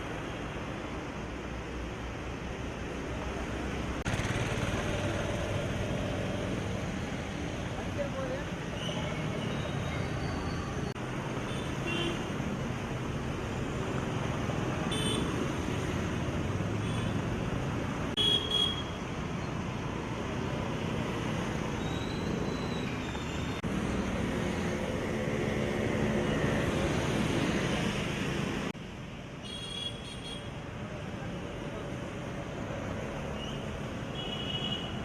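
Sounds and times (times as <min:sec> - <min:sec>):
road traffic in rain: 0:00.0 - 0:35.0.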